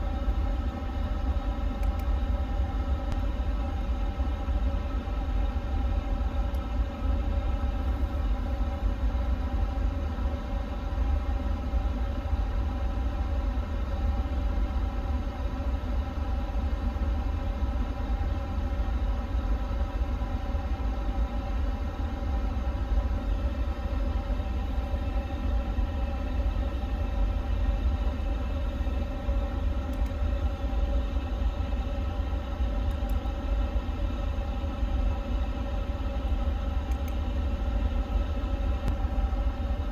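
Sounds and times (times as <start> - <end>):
multi-tone hum: 0.0 - 39.9
ventilation fan and airflow: 0.0 - 39.9.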